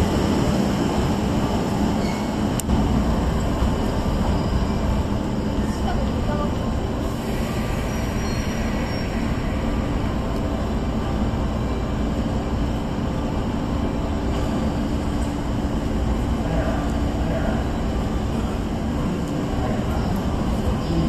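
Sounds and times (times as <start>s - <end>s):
electric train rolling slowly: 0.0s - 21.0s.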